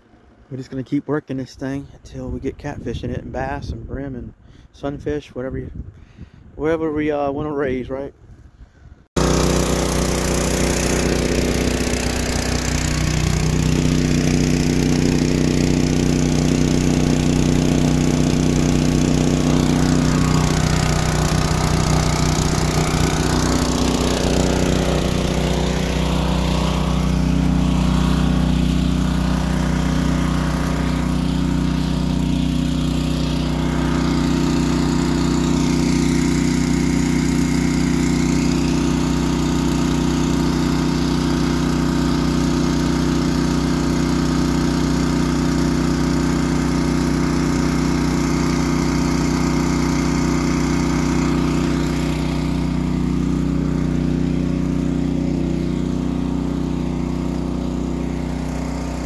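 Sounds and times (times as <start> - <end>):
small gasoline pump engine running: 0.0 - 0.8, 9.2 - 59.0.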